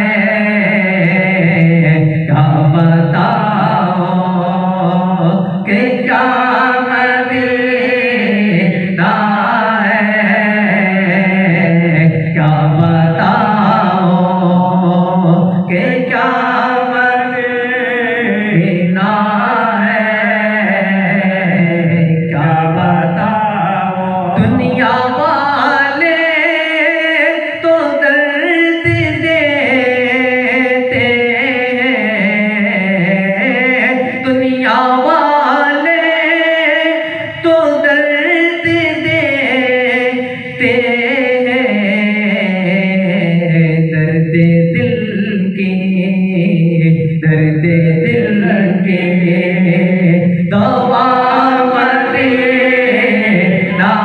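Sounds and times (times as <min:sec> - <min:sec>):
man singing devotional song: 0:00.0 - 0:54.0.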